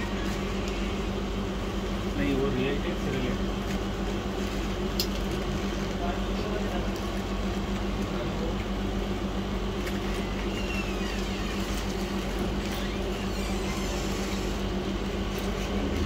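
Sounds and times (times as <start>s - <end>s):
machine hum of fans and equipment: 0.0s - 16.0s.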